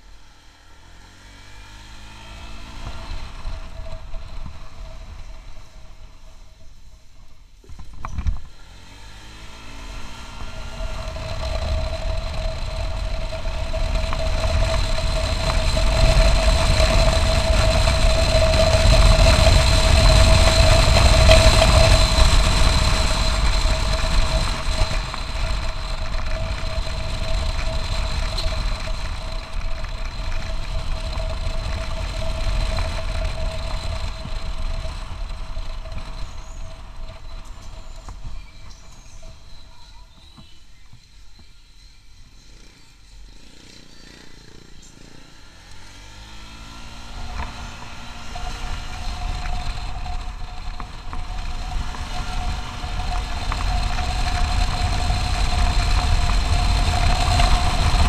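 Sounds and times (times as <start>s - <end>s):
scooter engine droning: 0.0s - 58.0s
wind rumbling on microphone: 2.0s - 42.0s, 45.8s - 58.0s.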